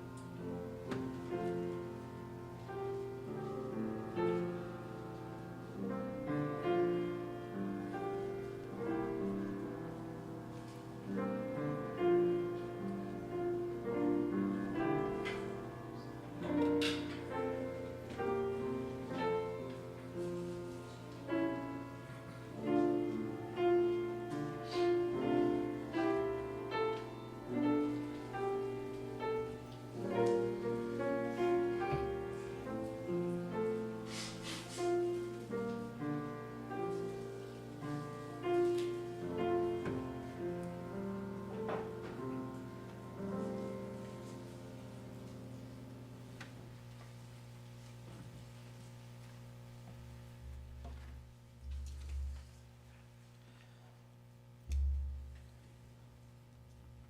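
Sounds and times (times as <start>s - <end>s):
slow piano chords: 0.0s - 48.2s, 49.0s - 57.0s
steady low hum: 0.0s - 57.0s.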